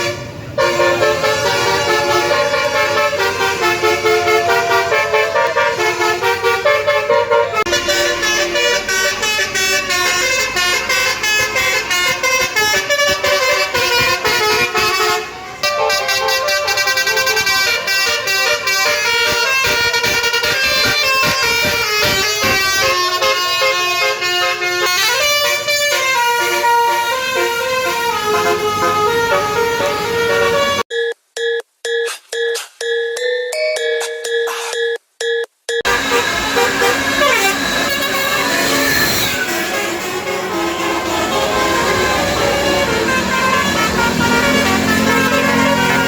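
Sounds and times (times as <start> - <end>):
multi-tone bus air horn melody: 0.0 - 30.9, 35.8 - 46.0.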